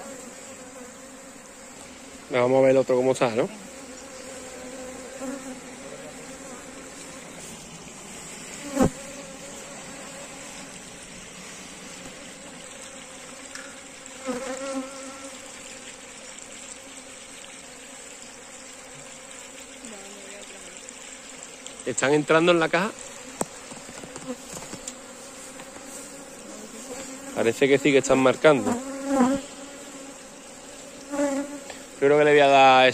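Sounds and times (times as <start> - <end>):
bees buzzing: 0.0 - 32.9.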